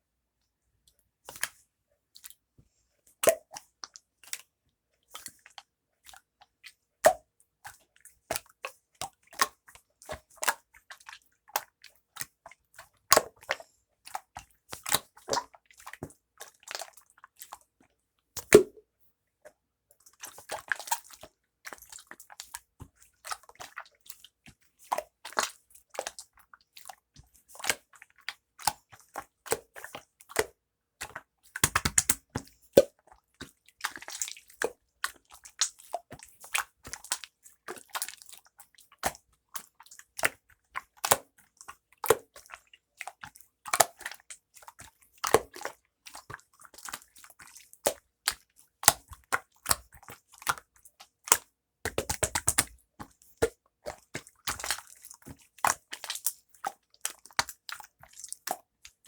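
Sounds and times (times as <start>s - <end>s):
wet clicks and squishes: 3.2s - 4.5s, 5.1s - 18.8s, 19.4s - 59.0s.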